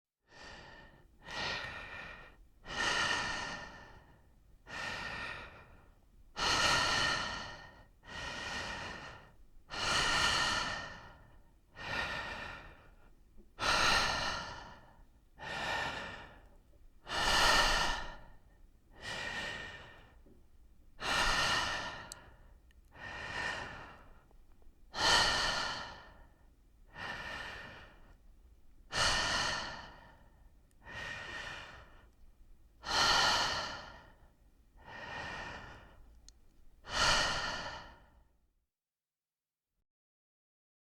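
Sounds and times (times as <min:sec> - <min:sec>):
person breathing slowly: 0:00.3 - 0:20.4, 0:21.0 - 0:38.4.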